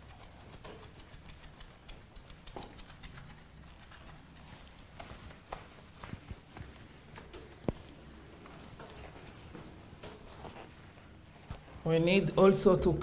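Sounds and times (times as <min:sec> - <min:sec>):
cloth rubbing on tiled wall: 0:00.0 - 0:11.9.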